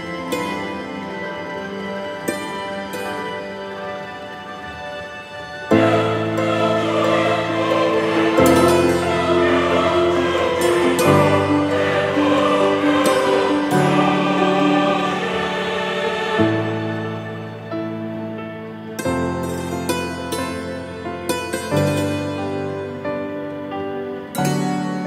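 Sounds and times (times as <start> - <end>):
slow sustained chords: 0.0 - 25.0.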